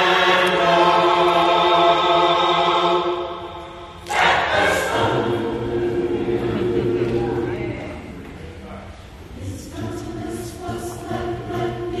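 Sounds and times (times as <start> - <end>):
choir singing: 0.0 - 8.1, 9.2 - 12.0.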